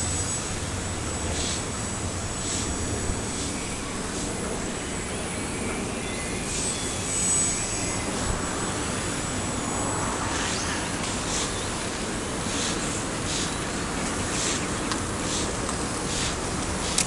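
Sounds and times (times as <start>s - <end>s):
rushing background noise: 0.0s - 17.0s.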